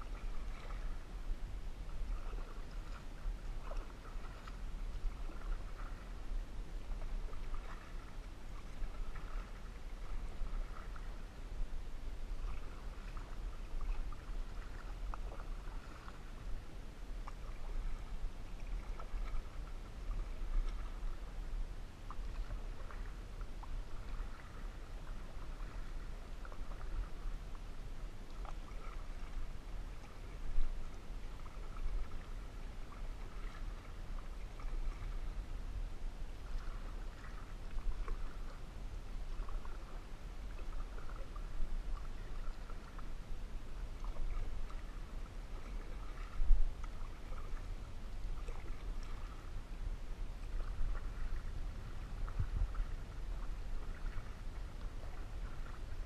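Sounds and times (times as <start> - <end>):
canoe paddle strokes in water: 0.0 - 56.0
steady low rumble: 0.0 - 56.0.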